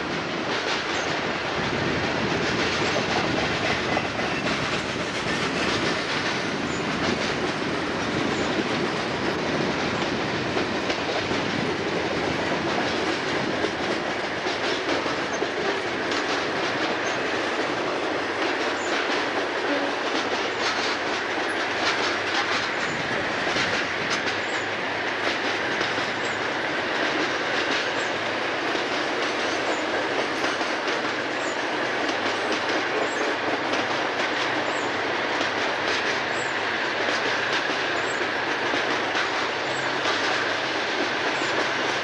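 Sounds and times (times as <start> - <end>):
diesel locomotive drone: 0.0 - 42.0
train wheel clatter: 0.0 - 42.0.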